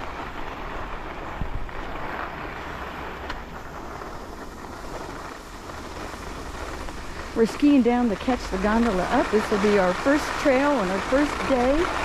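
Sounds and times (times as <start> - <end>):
skis sliding on snow: 0.0 - 12.0
wind buffeting microphone: 0.0 - 12.0.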